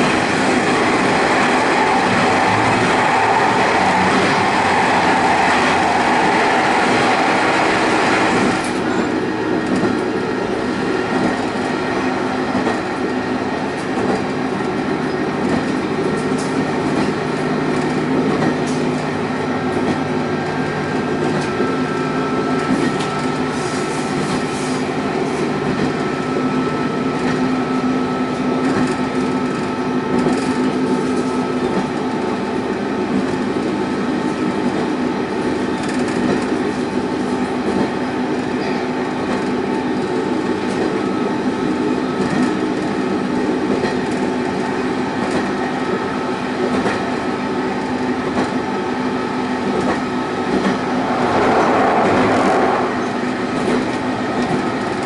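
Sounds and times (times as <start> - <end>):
train engine and wheels rumbling: 0.0 - 55.0.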